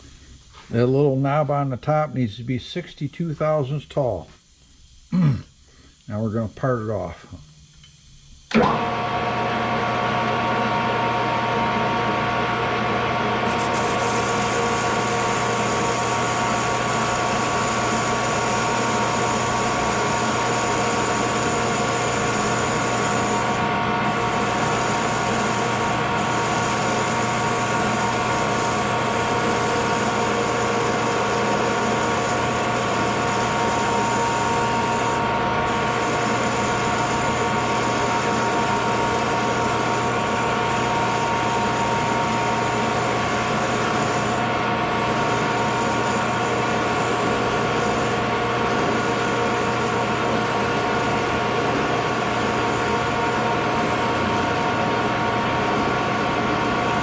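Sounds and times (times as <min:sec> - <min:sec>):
metal lathe running: 0:08.5 - 0:57.0.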